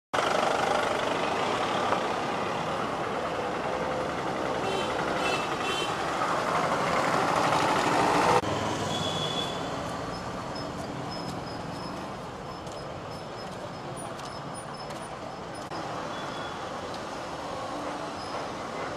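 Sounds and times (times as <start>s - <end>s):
motor vehicle noise: 0.2s - 18.9s.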